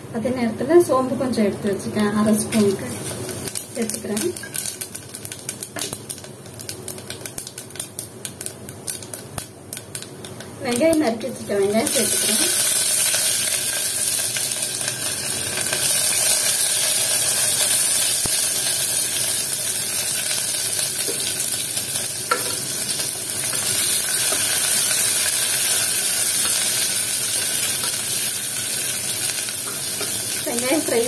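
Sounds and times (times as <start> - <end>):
onions sizzling in hot oil: 2.0 - 31.0.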